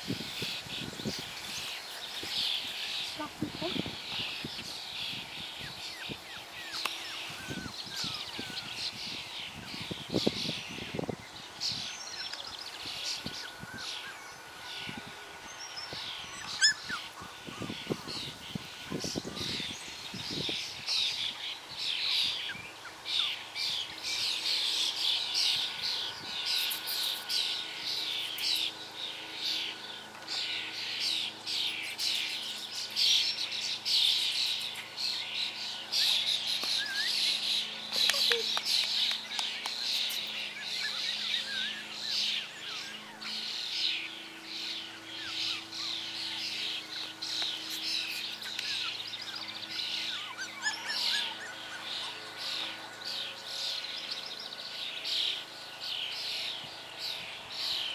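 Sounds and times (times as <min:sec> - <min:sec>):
songbirds chirping: 0:00.0 - 0:57.9.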